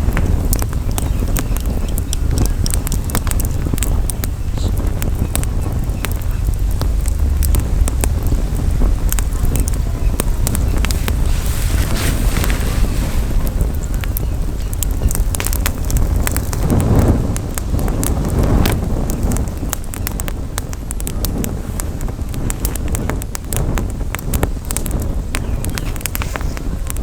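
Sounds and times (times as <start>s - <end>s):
campfire crackling and popping: 0.0s - 27.0s
wind rumble on microphone: 0.0s - 27.0s.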